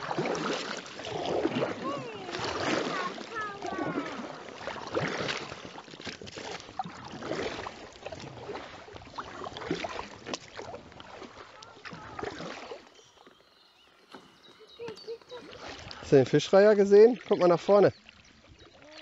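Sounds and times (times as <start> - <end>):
kayak paddle splashing water: 0.0 - 19.0.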